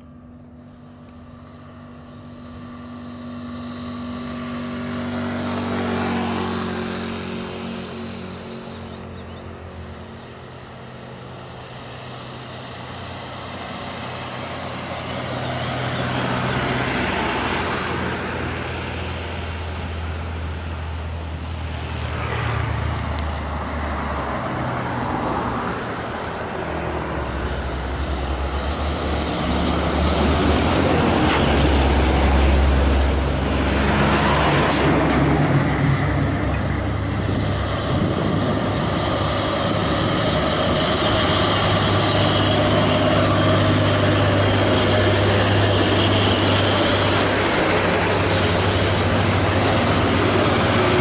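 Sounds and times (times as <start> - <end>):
truck diesel engine pulling uphill: 0.0 - 51.0.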